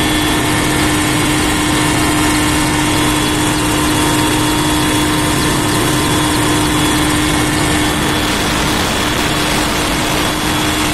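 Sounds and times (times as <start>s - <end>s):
helicopter engine and rotor noise: 0.0s - 10.9s.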